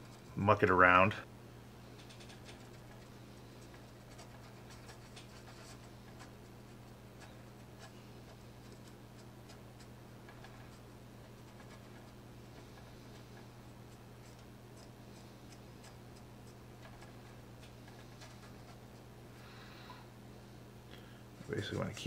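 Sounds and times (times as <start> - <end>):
steady low hum: 0.0 - 22.0
brush scratchy ticks: 1.9 - 19.9, 21.4 - 22.0.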